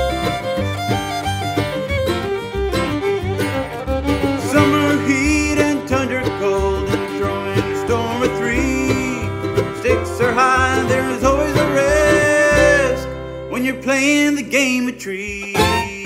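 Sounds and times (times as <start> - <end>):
country bluegrass music: 0.0 - 16.0.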